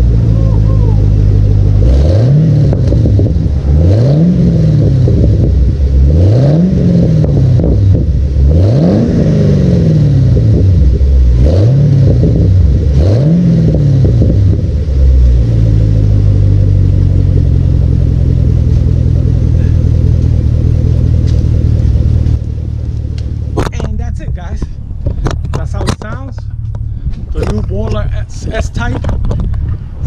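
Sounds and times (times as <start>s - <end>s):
car engine idling: 0.0s - 30.0s
car engine revving: 0.0s - 30.0s.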